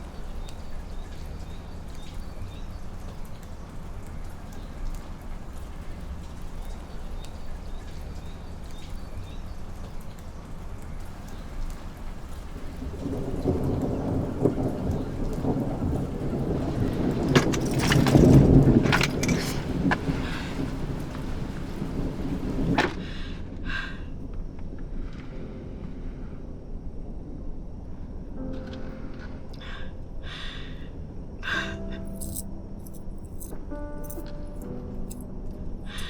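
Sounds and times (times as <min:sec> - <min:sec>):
thunder rumbling and crackling: 0:00.0 - 0:31.5
steady rain pattering: 0:00.0 - 0:36.0.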